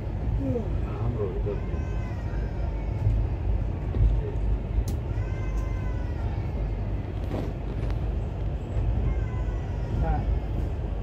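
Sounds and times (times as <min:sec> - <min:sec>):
train rumble inside coach: 0:00.0 - 0:11.0.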